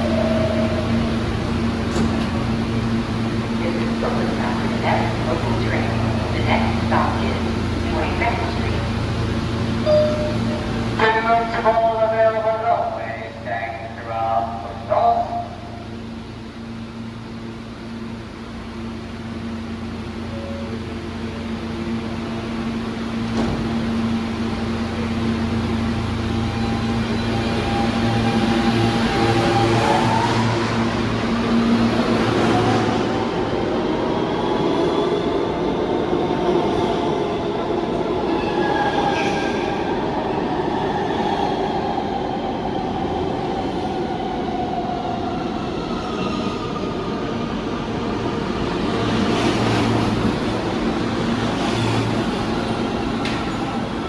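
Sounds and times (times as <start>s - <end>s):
subway train electric hum: 0.0s - 54.0s.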